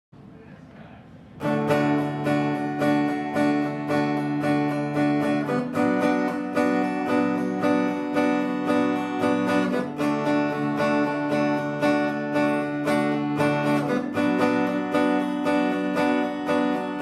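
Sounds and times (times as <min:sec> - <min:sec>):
acoustic guitar strumming: 0:01.3 - 0:17.0.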